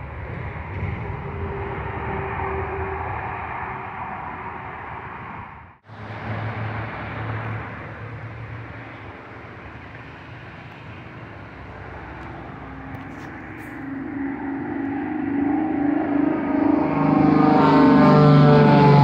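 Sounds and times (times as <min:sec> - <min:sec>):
propeller plane droning: 0:00.0 - 0:19.0.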